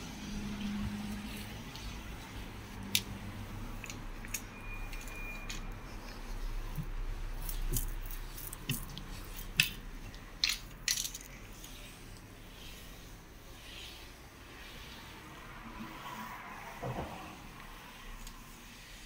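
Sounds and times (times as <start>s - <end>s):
mop swishing over floor: 0.0s - 19.0s.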